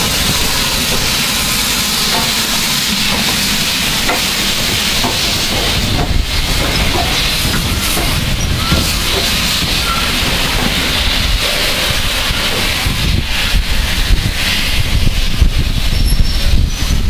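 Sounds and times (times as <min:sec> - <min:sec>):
steam hissing: 0:00.0 - 0:17.0
wind buffeting microphone: 0:00.0 - 0:17.0.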